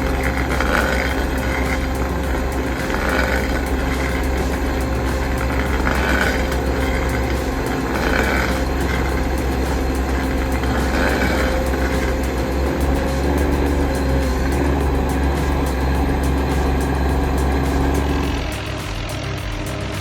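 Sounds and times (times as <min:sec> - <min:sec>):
heavy machine engine running: 0:00.0 - 0:20.0.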